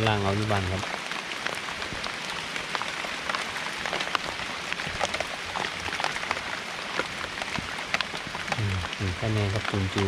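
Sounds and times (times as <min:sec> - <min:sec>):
rain hiss: 0:00.0 - 0:10.0
raindrops ticking: 0:00.0 - 0:10.0.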